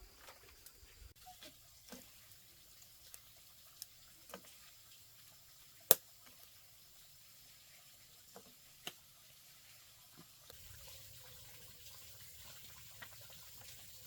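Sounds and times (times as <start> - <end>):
faint water: 0.0 - 14.0.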